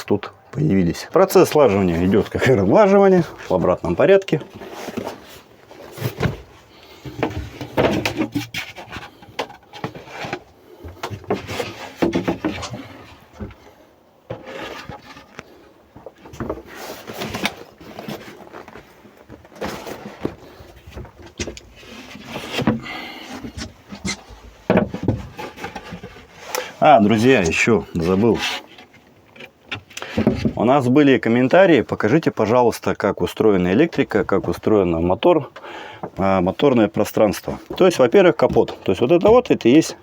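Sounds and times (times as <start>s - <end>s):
wooden panels knocking and scraping: 1.3s - 13.6s, 14.2s - 18.6s, 19.3s - 31.0s, 35.6s - 39.8s.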